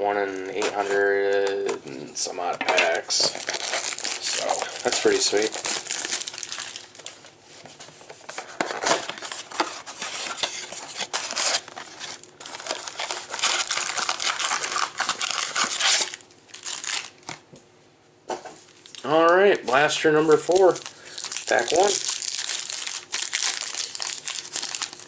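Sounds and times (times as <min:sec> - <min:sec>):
packaging crinkling and tearing: 0:00.3 - 0:02.0, 0:02.6 - 0:07.4, 0:08.4 - 0:17.4, 0:18.7 - 0:25.0.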